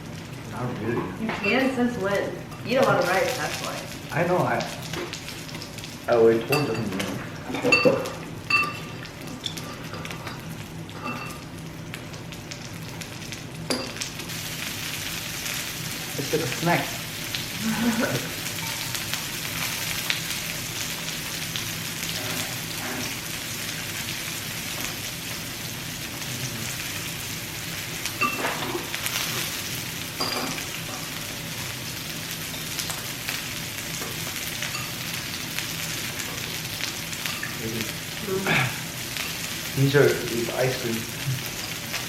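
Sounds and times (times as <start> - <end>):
pork sizzling on a grill: 0.0 - 42.0.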